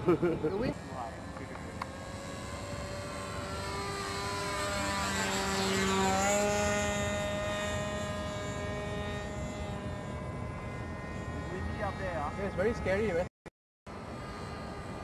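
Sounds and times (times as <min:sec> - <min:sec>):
model plane engine running: 0:00.0 - 0:13.3, 0:13.9 - 0:15.0.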